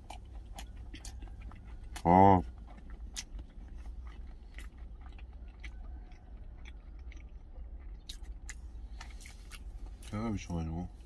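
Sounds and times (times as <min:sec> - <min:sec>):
low steady hum: 0:00.0 - 0:11.0
person chewing food: 0:00.0 - 0:11.0.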